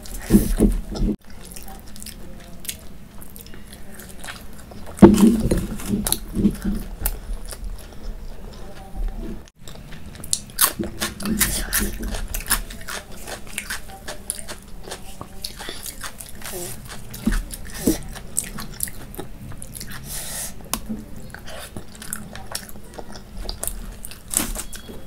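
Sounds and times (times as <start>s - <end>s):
chewing with wet mouth sounds: 0.0s - 8.9s, 9.5s - 25.0s.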